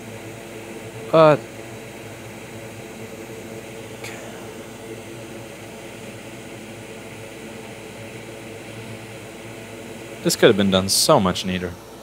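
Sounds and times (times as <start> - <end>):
fan-like hum and hiss: 0.0 - 12.0.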